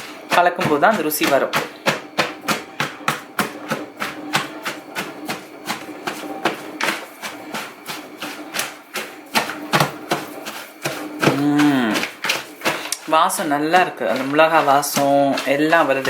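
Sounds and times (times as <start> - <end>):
pestle pounding in a mortar: 0.0 - 16.0.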